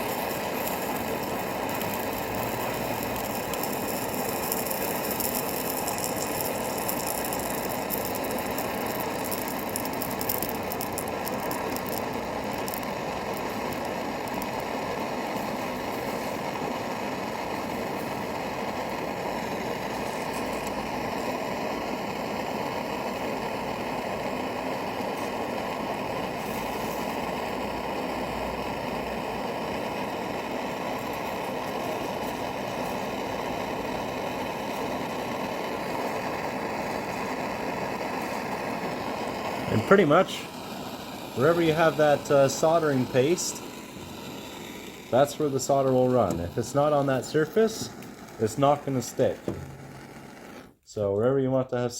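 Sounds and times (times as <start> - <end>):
crackling: 0.0 - 51.0
gas torch flame: 0.0 - 51.1.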